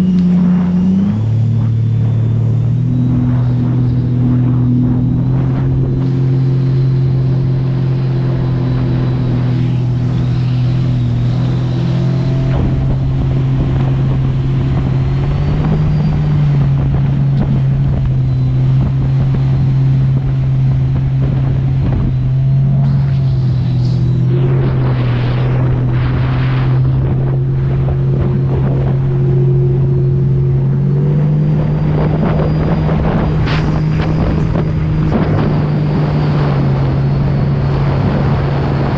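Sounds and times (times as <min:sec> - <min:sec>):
personal watercraft engine running: 0:00.0 - 0:38.9.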